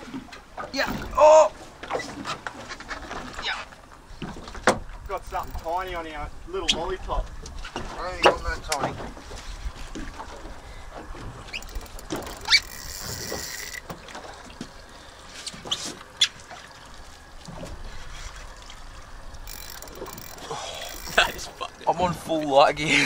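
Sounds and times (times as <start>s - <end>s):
water sloshing around boat hull: 0.0s - 23.0s.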